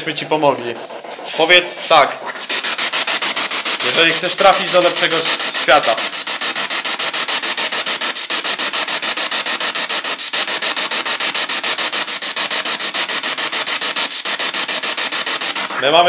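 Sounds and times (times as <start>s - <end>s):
chopped radio static: 0.0s - 16.0s.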